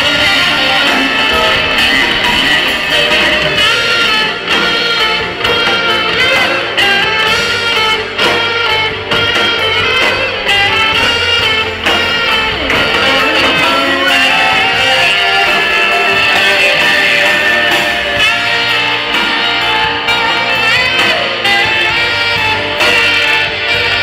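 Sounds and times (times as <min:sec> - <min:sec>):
drums: 0:00.0 - 0:24.0
electric guitar bending notes: 0:00.0 - 0:24.0
keyboards: 0:00.0 - 0:24.0.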